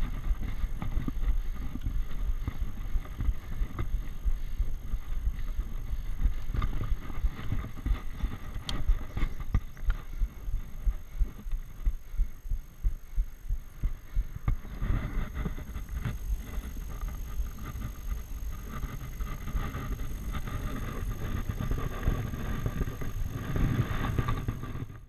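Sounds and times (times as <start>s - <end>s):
buffeting rumble on microphone: 0.0s - 25.0s.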